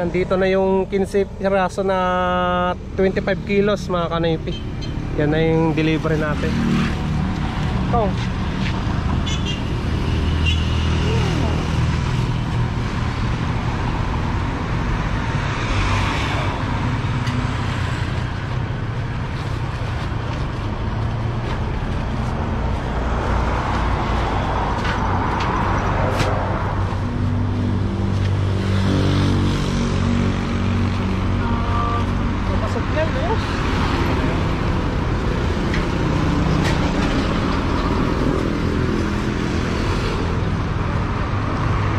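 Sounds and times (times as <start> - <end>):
vehicles passing: 0.0 - 41.9.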